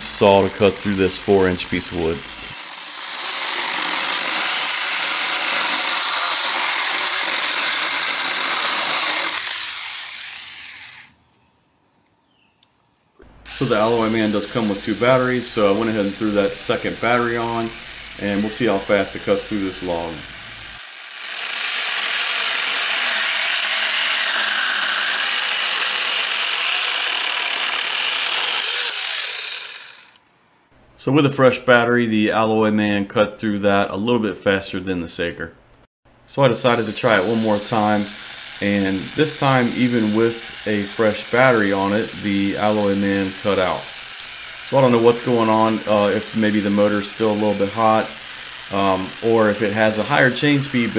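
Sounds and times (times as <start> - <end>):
chainsaw cutting wood: 0.0 - 11.2, 13.2 - 30.2, 36.6 - 50.9.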